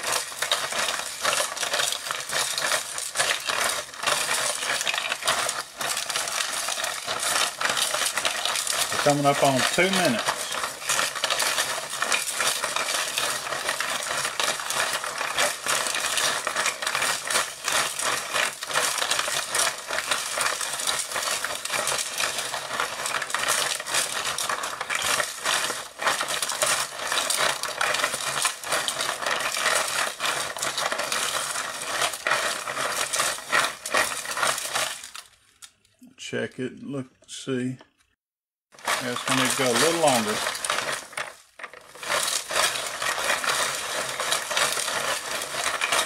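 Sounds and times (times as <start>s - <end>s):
hand crank clicking rattle: 0.0s - 35.7s, 38.8s - 46.0s.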